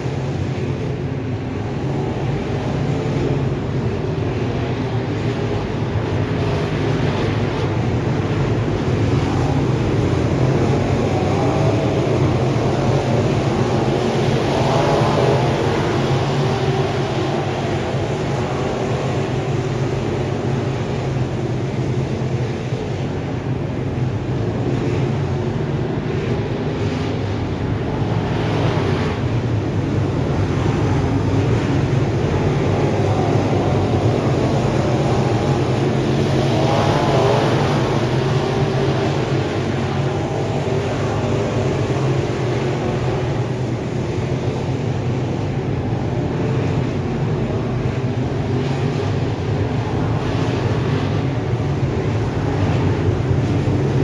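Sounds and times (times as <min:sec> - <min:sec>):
race car engines droning: 0:00.0 - 0:54.0.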